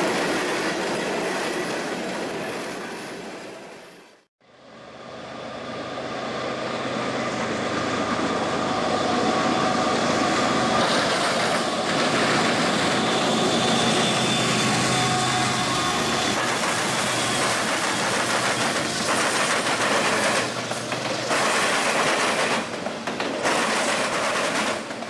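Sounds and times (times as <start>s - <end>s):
diesel locomotive engine rumble: 4.4s - 25.0s.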